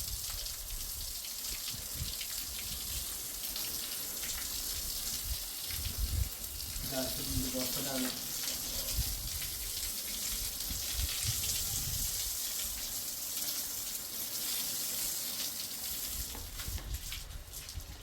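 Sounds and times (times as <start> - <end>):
tap water running into sink: 0.0 - 17.8.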